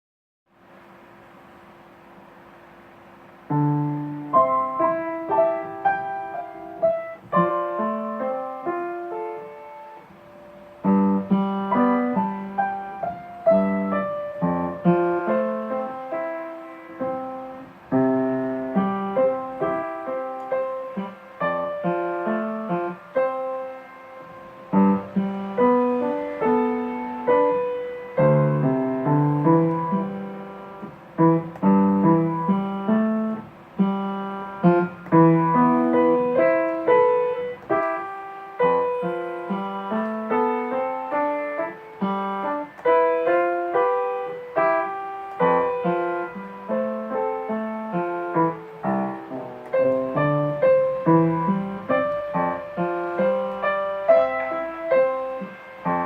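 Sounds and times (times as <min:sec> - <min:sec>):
solo piano music: 0:00.5 - 0:56.0.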